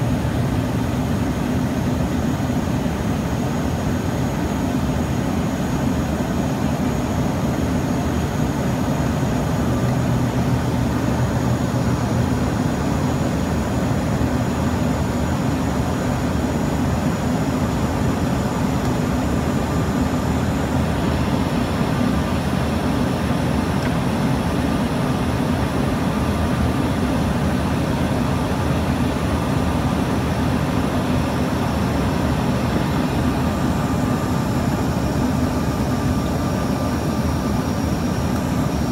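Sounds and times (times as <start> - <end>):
faint high whine: 0.0 - 38.9.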